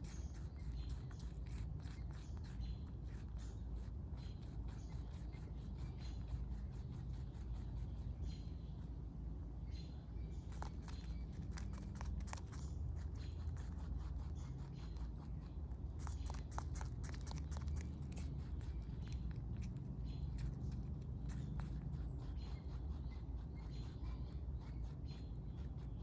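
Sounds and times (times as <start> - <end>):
low steady hum: 0.0 - 26.0
rabbit chewing: 0.0 - 26.0.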